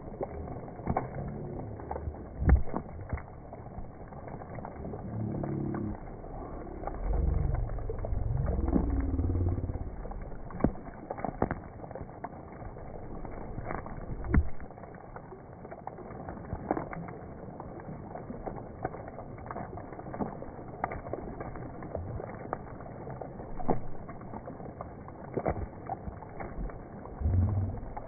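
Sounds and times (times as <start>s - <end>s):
heavy rain on water: 0.0s - 28.0s.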